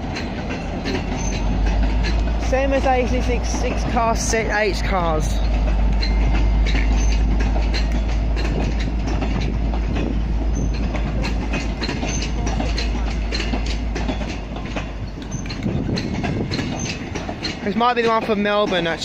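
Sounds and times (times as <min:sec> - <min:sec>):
train carriages rumbling past: 0:00.0 - 0:19.0
train wheels clacking on rail joints: 0:00.0 - 0:19.0.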